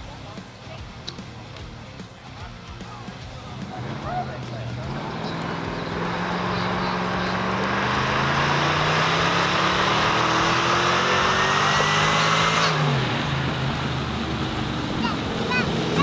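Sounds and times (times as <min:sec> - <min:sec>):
vehicle engine accelerating: 0:03.1 - 0:16.0.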